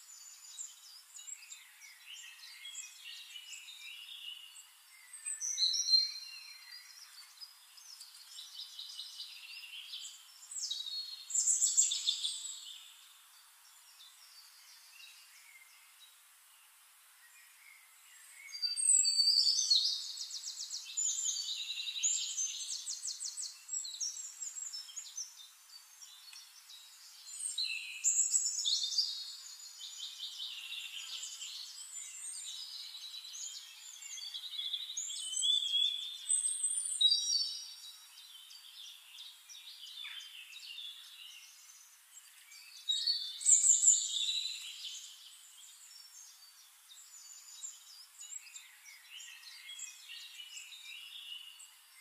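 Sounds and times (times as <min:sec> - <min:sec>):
birds chirping and trilling: 0:00.1 - 0:52.0.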